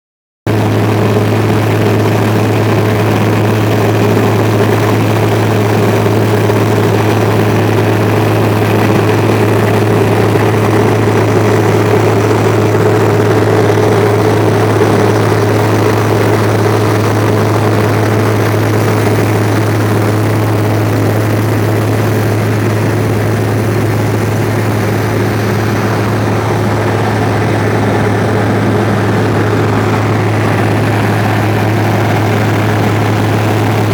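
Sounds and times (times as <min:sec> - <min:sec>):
heavy diesel engine running: 0:00.5 - 0:33.9.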